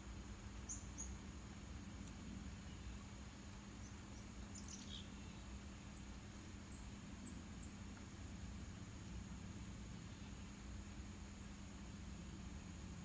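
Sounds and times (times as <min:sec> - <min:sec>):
songbird chirps: 0:00.0 - 0:13.0.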